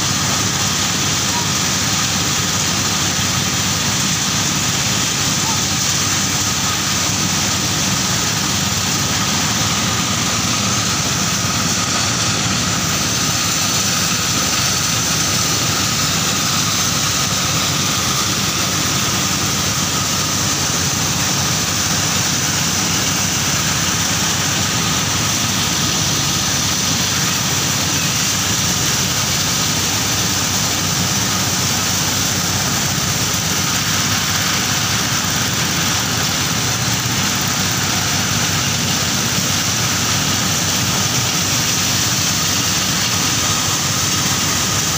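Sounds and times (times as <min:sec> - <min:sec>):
corn milling machine running: 0:00.0 - 0:44.9
faint steady whine: 0:00.0 - 0:44.9.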